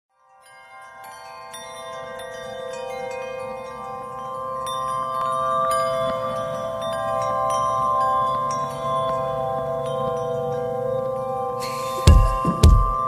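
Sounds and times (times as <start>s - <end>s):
chimes ringing: 0.2s - 13.0s.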